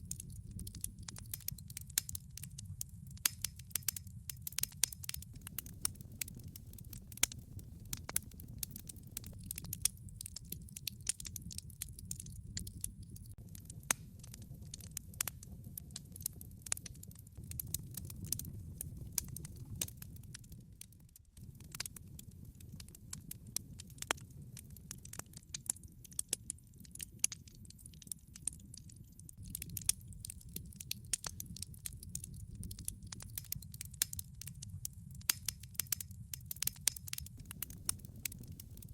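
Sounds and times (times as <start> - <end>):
sharp pops and snaps: 0.0 - 38.9
wood fire crackling: 0.0 - 38.9.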